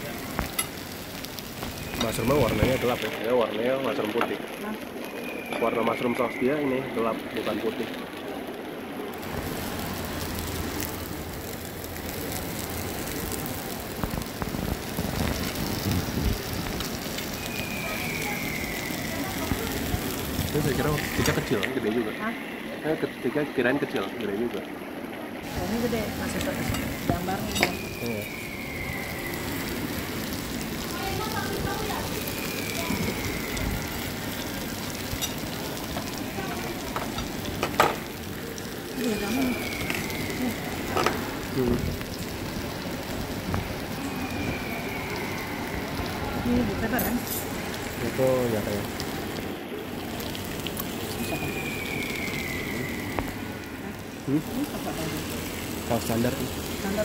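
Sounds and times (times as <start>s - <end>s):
steak sizzling on hot plate: 0.0s - 24.1s, 25.4s - 57.0s.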